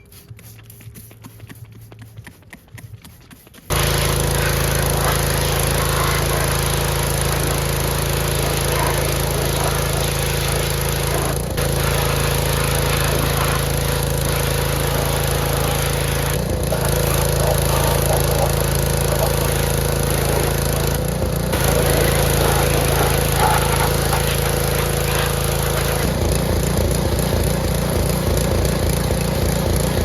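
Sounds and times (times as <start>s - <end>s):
small motor humming: 3.7s - 30.0s.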